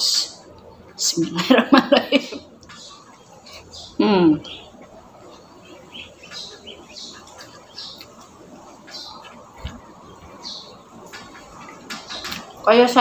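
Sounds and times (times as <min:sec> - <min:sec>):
bird chirping: 0:02.4 - 0:13.0.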